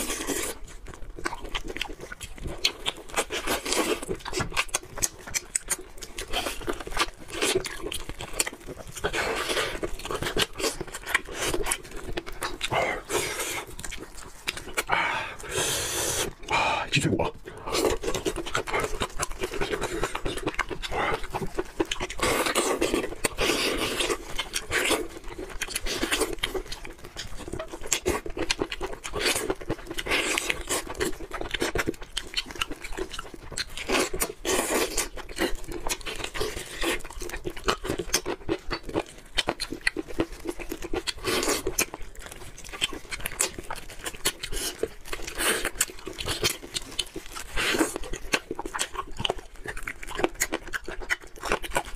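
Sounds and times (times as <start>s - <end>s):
chewing with mouth clicks: 0.0s - 16.6s, 17.2s - 51.9s.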